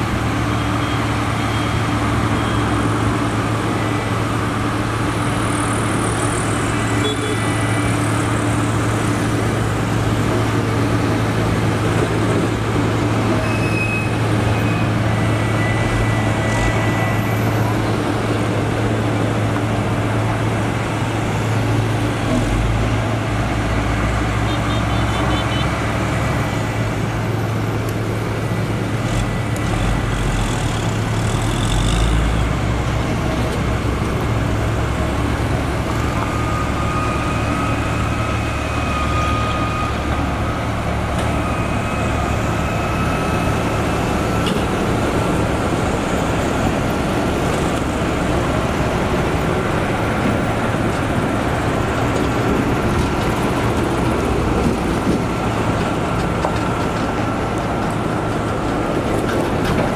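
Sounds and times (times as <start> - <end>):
heavy diesel engines running: 0.0 - 59.9
passing road traffic: 0.0 - 59.9.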